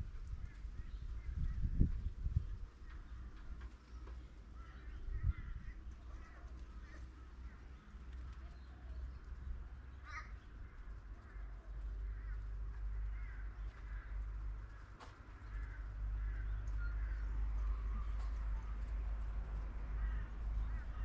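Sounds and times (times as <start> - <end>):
wild birds calling: 2.8 - 21.0.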